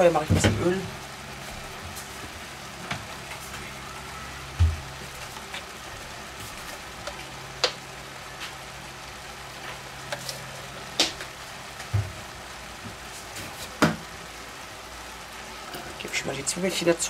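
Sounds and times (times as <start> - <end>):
fat sizzling in pans: 0.0 - 17.0
low steady hum: 0.0 - 17.0.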